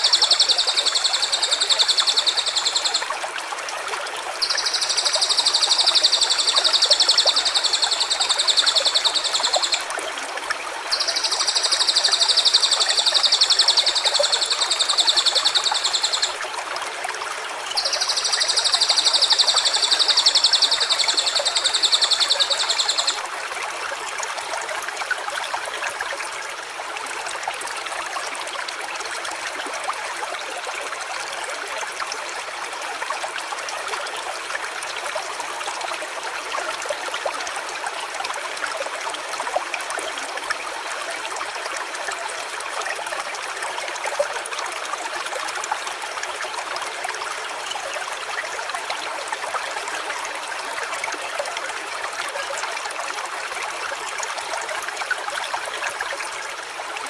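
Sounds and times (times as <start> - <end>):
small stream running: 0.0 - 57.0.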